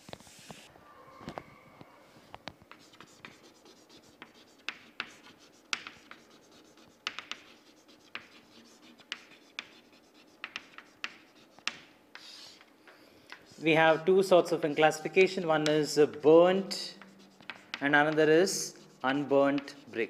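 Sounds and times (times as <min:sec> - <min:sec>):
chalk tapping and scratching: 0:02.6 - 0:20.0.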